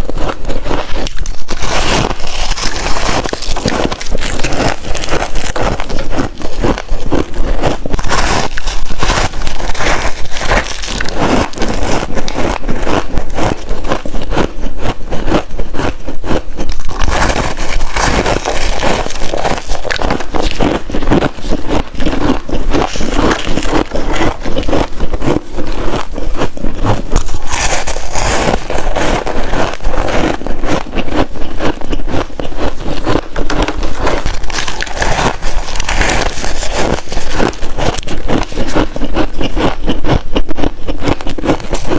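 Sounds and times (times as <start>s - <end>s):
chewing crunchy frost: 0.0s - 41.9s.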